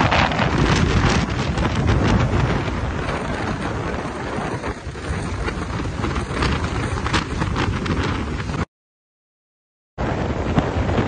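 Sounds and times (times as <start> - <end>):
wind buffeting microphone: 0.0 - 8.7, 10.0 - 11.0.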